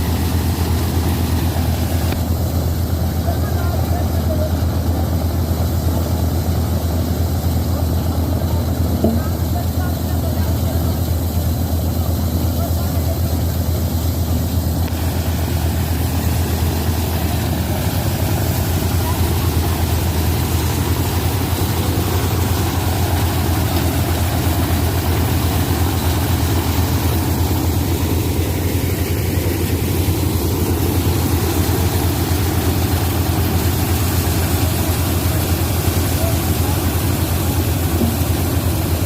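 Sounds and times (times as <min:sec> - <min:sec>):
thresher engine droning: 0:00.0 - 0:39.0.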